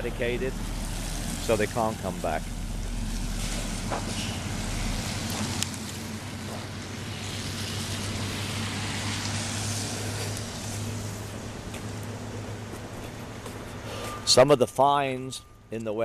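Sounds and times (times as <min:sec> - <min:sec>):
deep rumble: 0:00.0 - 0:13.0
heavy machinery engines droning: 0:00.0 - 0:16.0.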